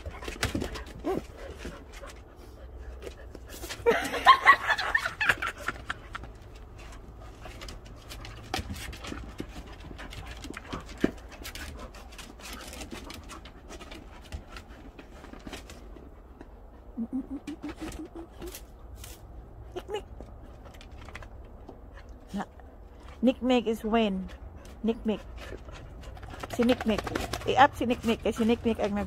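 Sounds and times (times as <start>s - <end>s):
dogs panting: 0.0s - 19.0s, 23.8s - 29.0s.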